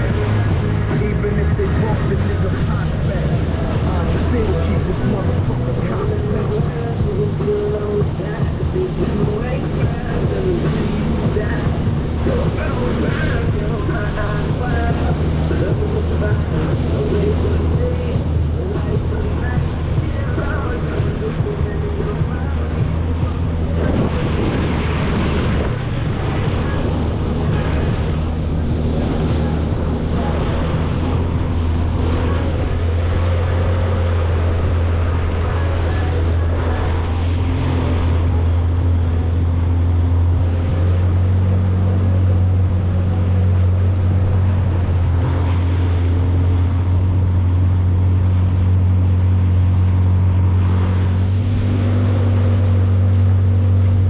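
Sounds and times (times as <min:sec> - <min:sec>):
jet ski engine running: 0:00.0 - 0:54.0
wind noise: 0:00.0 - 0:54.0.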